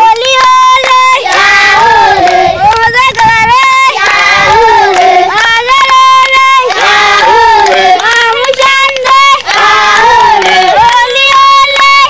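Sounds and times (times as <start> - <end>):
children singing and shouting: 0.0 - 12.0.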